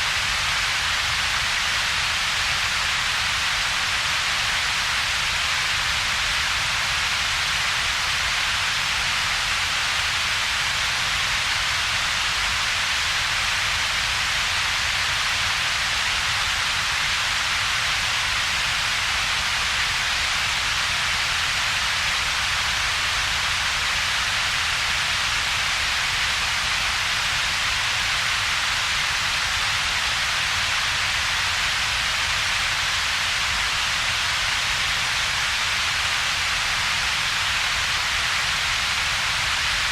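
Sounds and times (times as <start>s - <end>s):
steady synthetic hiss: 0.0s - 39.9s.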